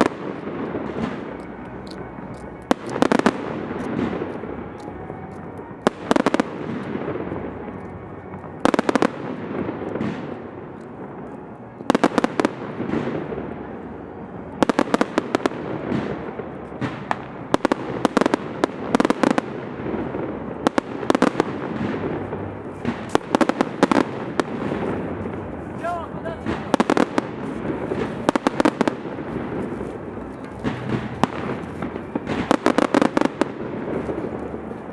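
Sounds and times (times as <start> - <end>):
fireworks bangs: 0.0 - 34.9
rumble of echoing explosions: 0.0 - 34.9.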